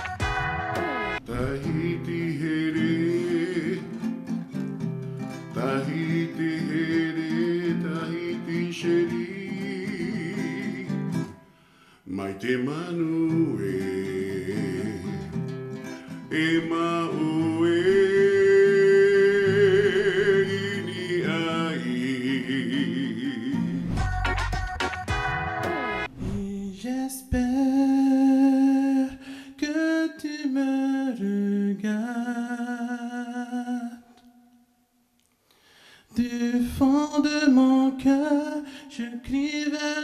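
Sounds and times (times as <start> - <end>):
man singing: 0.0 - 4.7, 5.3 - 11.4, 12.0 - 25.8, 26.4 - 34.7, 36.1 - 40.0
acoustic guitar: 0.0 - 40.0.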